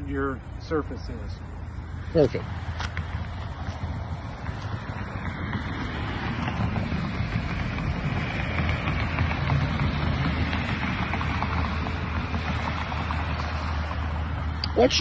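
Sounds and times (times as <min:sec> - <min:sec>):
wind rumble on microphone: 0:02.5 - 0:14.6.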